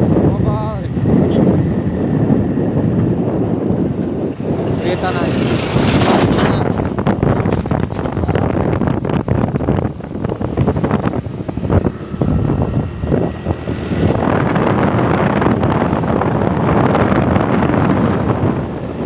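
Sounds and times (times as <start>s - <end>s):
road noise: 0.0s - 19.0s
wind rushing on microphone: 0.0s - 19.0s.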